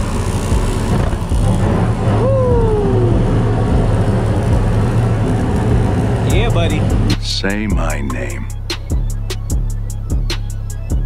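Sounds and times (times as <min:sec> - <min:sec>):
gas burners roaring: 0:00.0 - 0:11.0.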